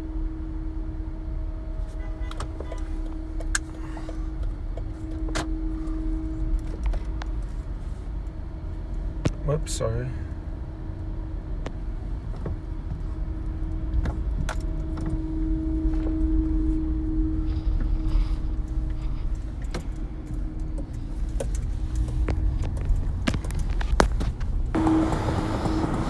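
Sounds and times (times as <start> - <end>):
vehicle low hum: 0.0 - 26.0
street traffic rumbling: 0.4 - 26.0.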